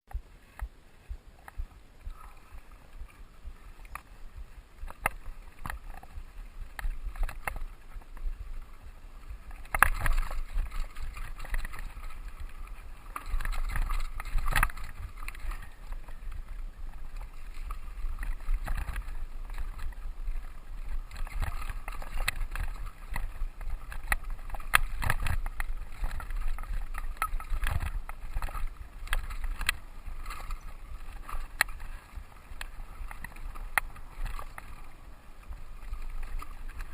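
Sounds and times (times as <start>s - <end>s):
mountain bike on dirt trail: 0.1s - 36.9s
bike rattles and knocks: 4.8s - 34.9s.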